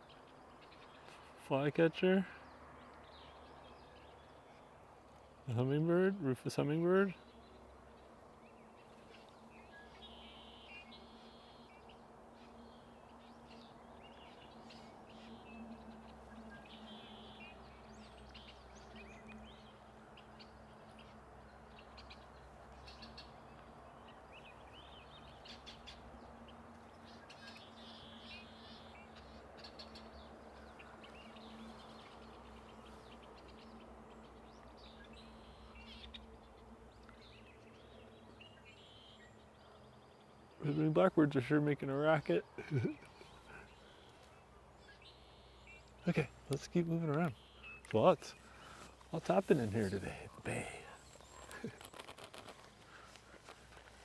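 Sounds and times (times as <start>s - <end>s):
blackbirds chirping and buzzing: 0.0s - 54.0s.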